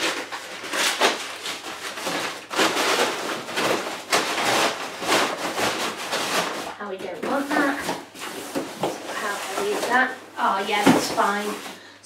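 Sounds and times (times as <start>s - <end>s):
paper bag rustling and crinkling: 0.0s - 12.0s.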